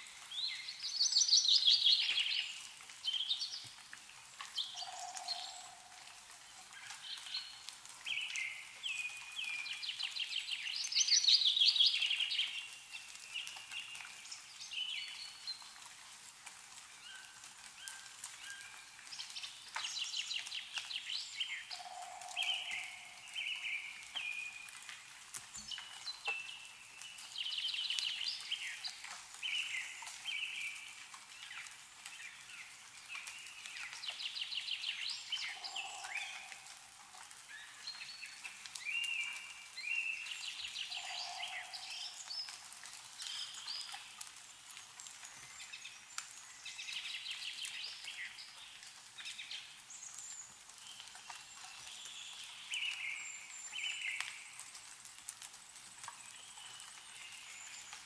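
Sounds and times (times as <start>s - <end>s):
snow dripping ticks: 0.1s - 58.0s
songbirds chirping and trilling: 4.5s - 15.7s, 17.8s - 24.8s, 25.5s - 54.7s.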